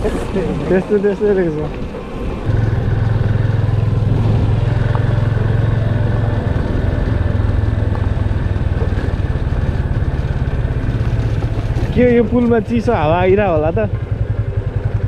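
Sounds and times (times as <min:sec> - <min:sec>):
motorcycle engine humming: 0:00.0 - 0:15.0.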